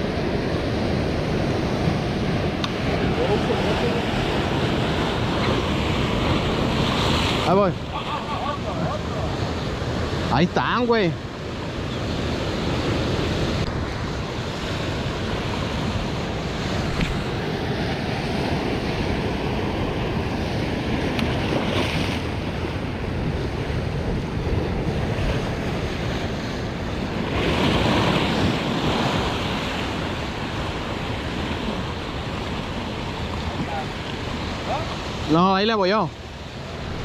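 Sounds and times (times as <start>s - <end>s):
wind rumbling on microphone: 0.0s - 35.4s, 36.2s - 37.0s
ocean surf breaking: 0.0s - 37.0s.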